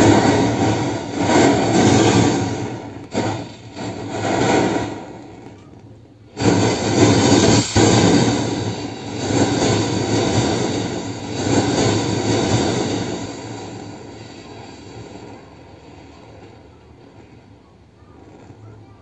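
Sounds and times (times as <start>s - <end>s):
alcohol stove burning: 0.0s - 19.0s.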